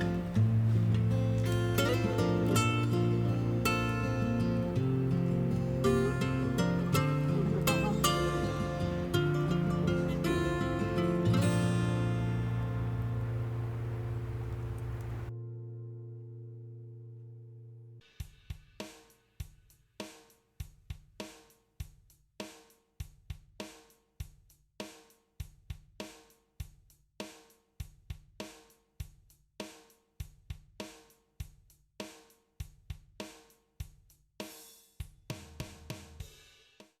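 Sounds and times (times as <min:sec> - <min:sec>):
drum kit beat: 0:00.0 - 0:13.6, 0:18.2 - 0:37.0.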